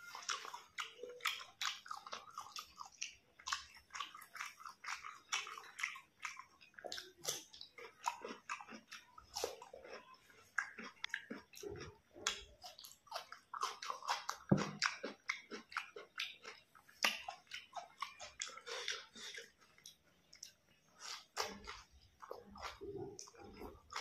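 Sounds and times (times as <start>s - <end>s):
person chewing crunchy vegetables: 0.0s - 24.0s.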